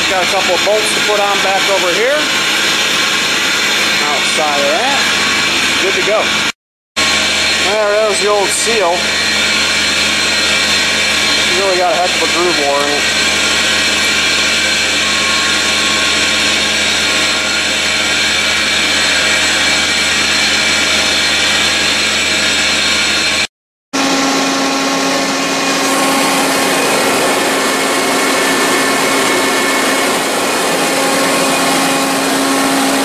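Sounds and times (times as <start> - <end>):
air compressor drone: 0.0 - 33.0
electric motor humming: 0.0 - 33.0.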